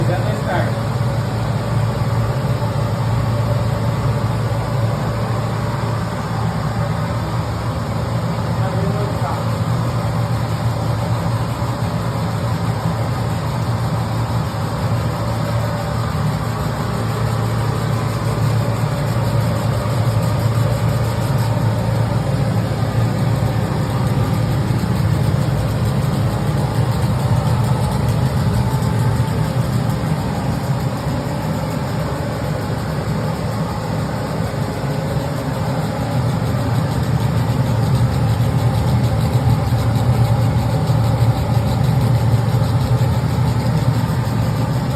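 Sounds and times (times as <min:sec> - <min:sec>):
machine humming: 0:00.0 - 0:44.9.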